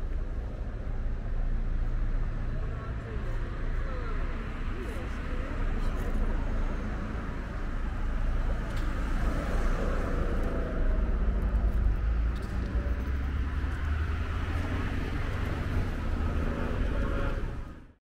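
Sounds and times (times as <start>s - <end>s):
cars passing: 0.0s - 18.0s
engines rumbling: 0.0s - 18.0s.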